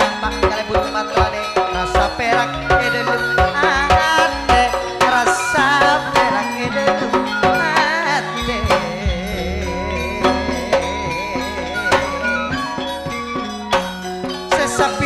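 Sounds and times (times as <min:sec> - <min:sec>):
ornamented lead melody with vibrato: 0:00.0 - 0:15.0.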